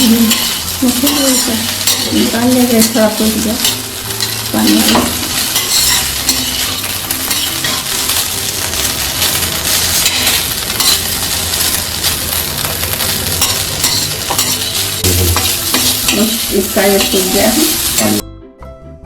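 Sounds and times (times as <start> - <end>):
spatula scraping a pan: 0.0 - 12.4, 13.0 - 18.2
food sizzling in a pan: 0.0 - 18.2.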